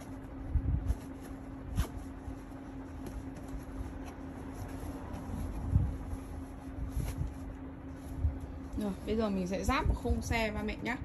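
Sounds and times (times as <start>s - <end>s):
fabric canopy rustling: 0.0s - 10.1s
steady low hum: 0.0s - 11.0s.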